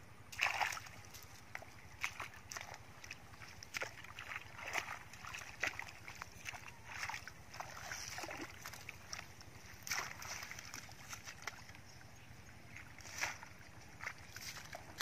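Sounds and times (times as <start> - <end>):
hands splashing in muddy water: 0.3 - 11.8, 12.6 - 15.0.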